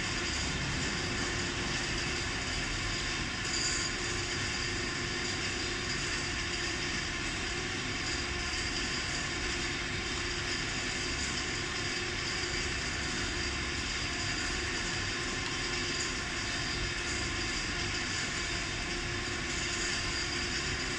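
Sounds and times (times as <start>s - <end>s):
steady mechanical hum: 0.0s - 20.9s.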